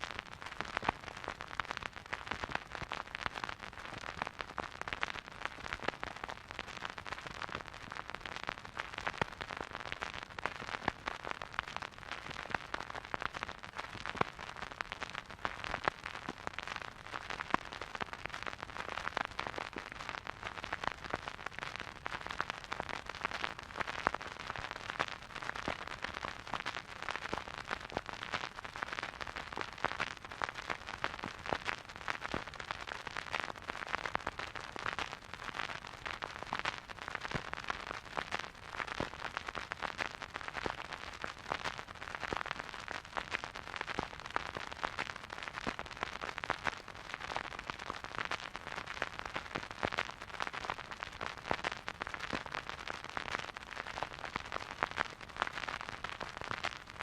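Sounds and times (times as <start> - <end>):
vinyl record crackle and hiss: 0.0 - 57.0.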